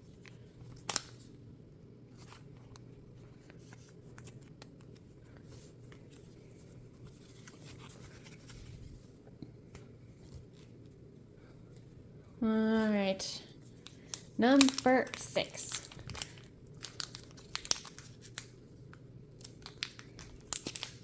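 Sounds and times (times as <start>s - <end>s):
low room hum: 0.0s - 21.0s
trading cards rustling and clicking: 0.1s - 1.3s, 2.2s - 11.0s, 12.8s - 21.0s.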